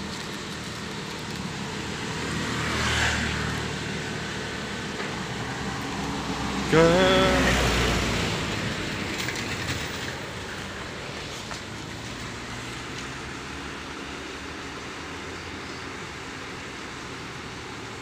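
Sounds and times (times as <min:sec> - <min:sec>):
truck engine and tyre noise: 0:00.0 - 0:18.0.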